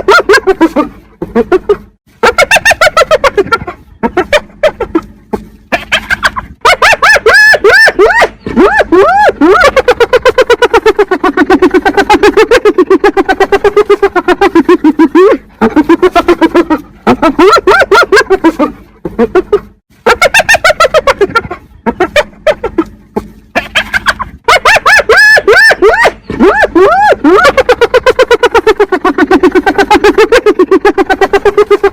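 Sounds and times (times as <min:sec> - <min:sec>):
hyena giggling calls: 0:00.0 - 0:31.9.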